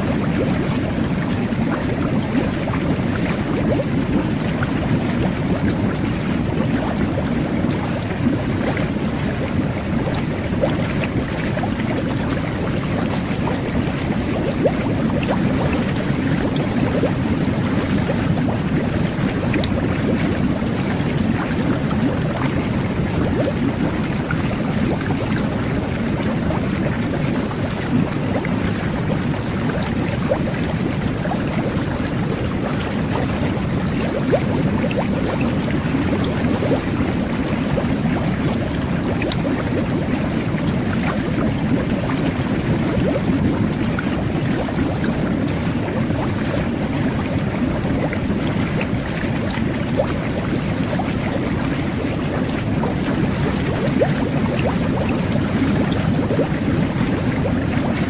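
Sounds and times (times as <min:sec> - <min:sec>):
water churning and bubbling: 0:00.0 - 0:58.0.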